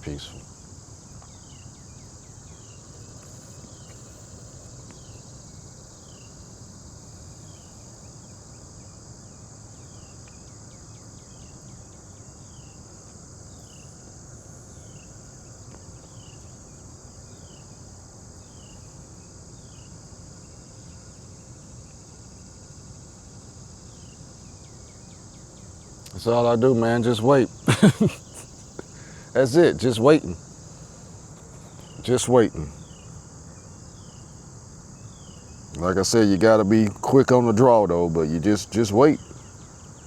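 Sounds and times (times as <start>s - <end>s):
crickets and insects chirping: 0.0s - 40.0s.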